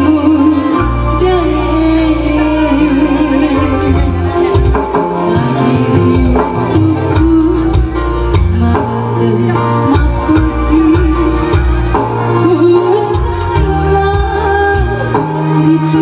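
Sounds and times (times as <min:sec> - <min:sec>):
amplified band music: 0:00.0 - 0:16.0.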